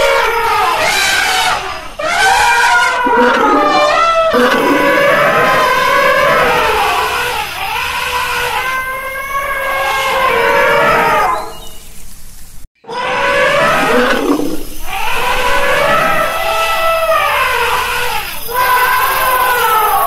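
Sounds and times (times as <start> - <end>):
elephant trumpeting: 0.0 - 11.6, 12.9 - 20.0.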